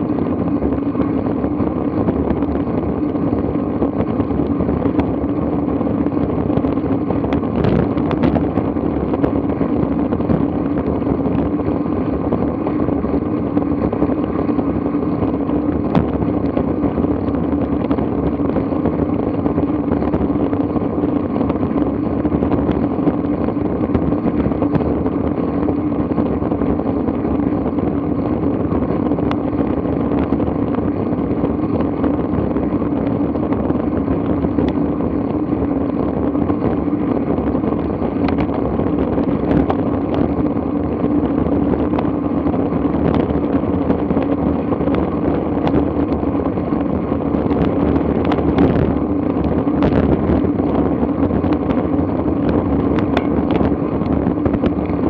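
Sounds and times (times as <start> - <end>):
bike tyres humming on asphalt: 0.0 - 55.0
wind rush on microphone: 0.0 - 55.0.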